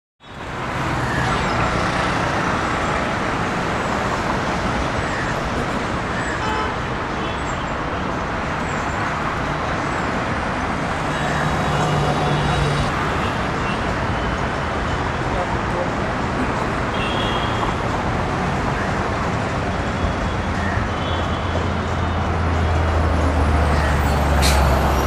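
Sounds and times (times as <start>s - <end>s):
busy road traffic: 0.2s - 25.0s.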